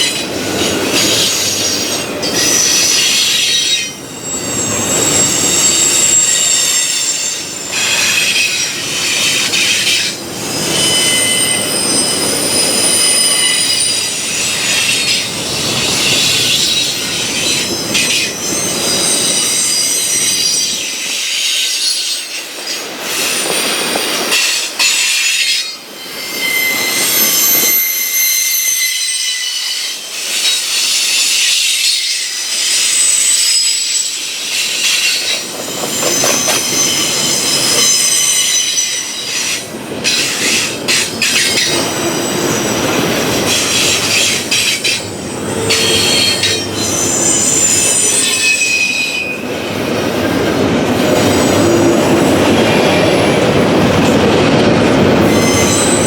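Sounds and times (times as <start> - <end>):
train wheels squealing: 0.0 - 49.8, 51.0 - 54.3, 55.0 - 56.0
rumble of train cars: 0.0 - 56.0.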